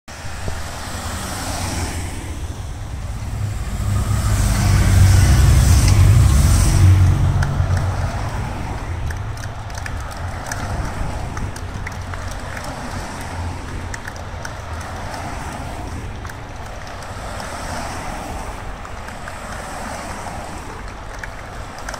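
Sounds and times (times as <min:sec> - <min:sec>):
cars passing on road: 0:00.1 - 0:21.9.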